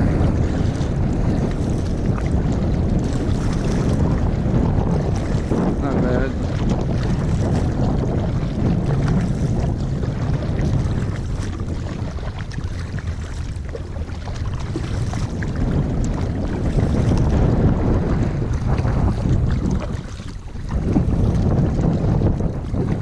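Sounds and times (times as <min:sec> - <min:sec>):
kayak knocks: 0:00.0 - 0:23.0
small water splashes: 0:00.0 - 0:23.0
wind buffeting microphone: 0:00.0 - 0:23.0.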